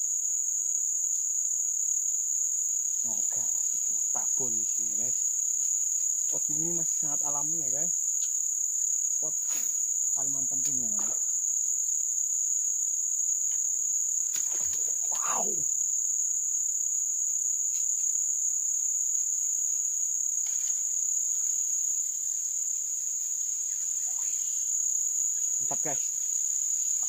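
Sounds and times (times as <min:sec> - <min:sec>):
crickets shrilling: 0:00.0 - 0:27.0.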